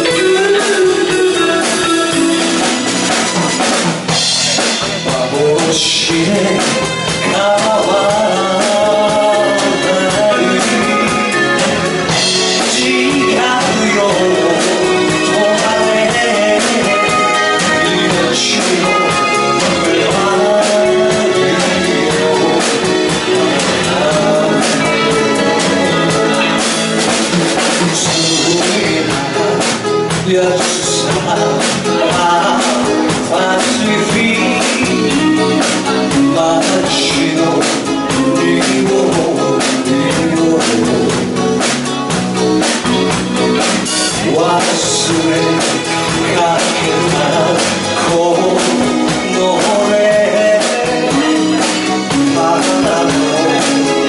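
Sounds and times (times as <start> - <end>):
man singing into a microphone: 0.0 - 2.8, 4.2 - 42.1, 43.6 - 54.0
drum kit steady beat: 0.0 - 54.0
electric bass: 0.0 - 54.0
electric guitar: 0.0 - 54.0.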